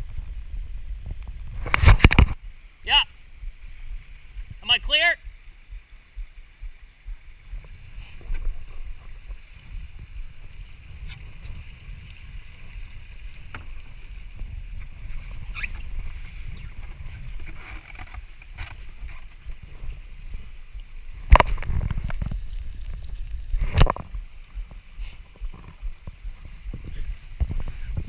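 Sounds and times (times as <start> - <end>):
rumble of water and hull: 0.0 - 28.0.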